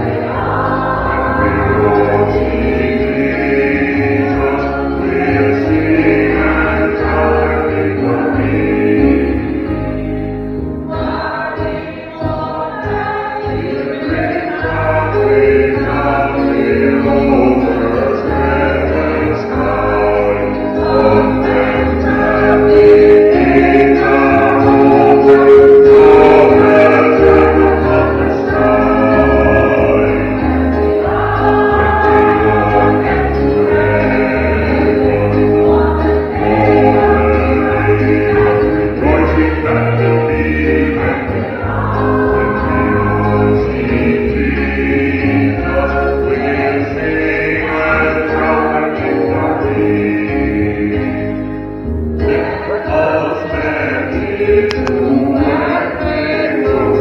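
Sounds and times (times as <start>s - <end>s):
low bass notes: 0.0s - 11.2s, 13.5s - 57.0s
congregation singing a hymn: 0.0s - 57.0s.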